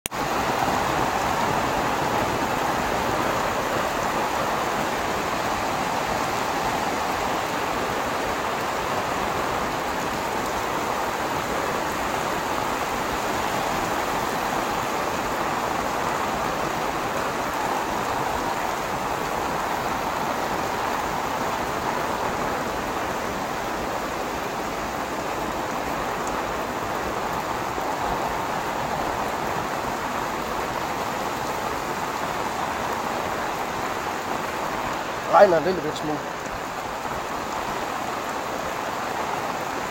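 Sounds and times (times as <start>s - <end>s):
rain on an umbrella: 0.1s - 39.9s
rain on wet pavement: 0.1s - 39.9s.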